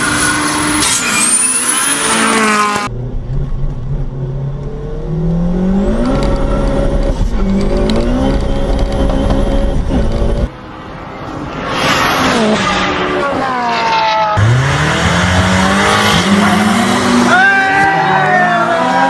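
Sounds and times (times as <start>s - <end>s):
car engine accelerating: 2.1s - 10.5s, 12.0s - 19.0s.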